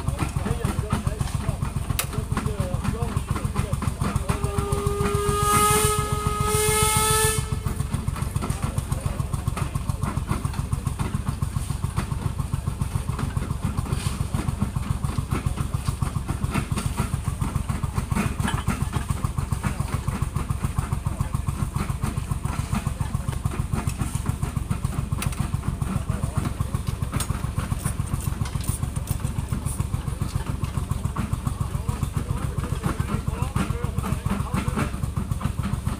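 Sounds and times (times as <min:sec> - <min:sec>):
machine engine running: 0:00.0 - 0:35.9.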